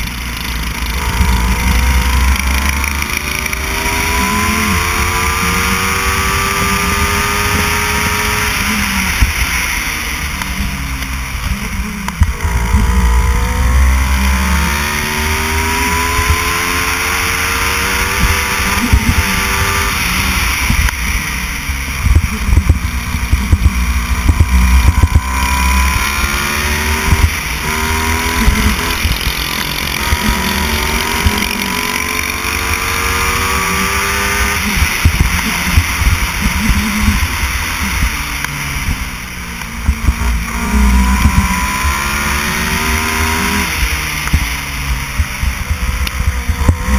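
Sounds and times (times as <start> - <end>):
kart engine accelerating: 0.0 - 46.9.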